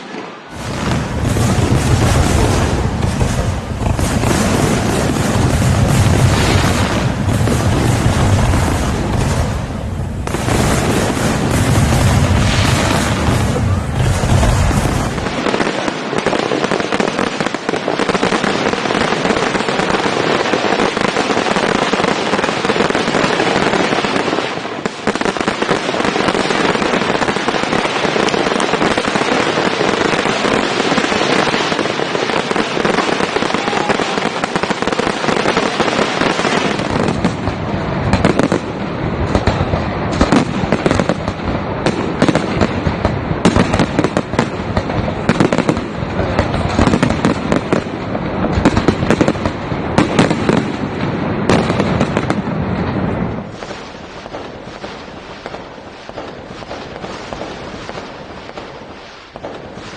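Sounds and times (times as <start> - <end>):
fireworks booming bursts: 0.0 - 59.9
fireworks crackling and popping: 0.0 - 59.9.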